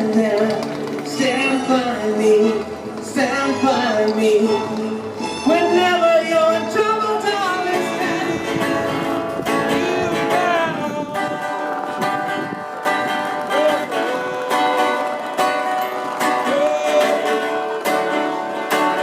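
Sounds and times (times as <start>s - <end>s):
person singing: 0.0s - 19.0s
plucked strings: 0.0s - 19.0s.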